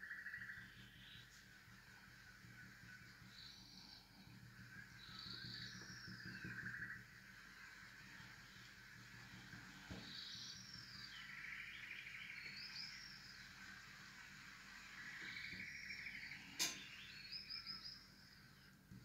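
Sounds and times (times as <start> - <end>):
small bird singing: 0.0 - 19.0.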